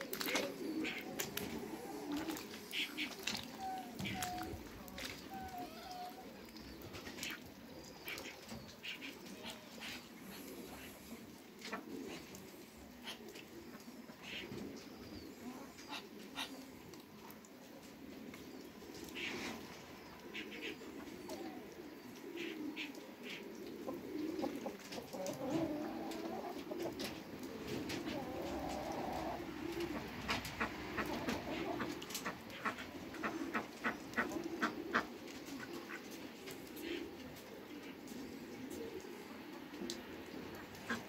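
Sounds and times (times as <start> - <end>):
domestic bird cooing: 0.0 - 41.0.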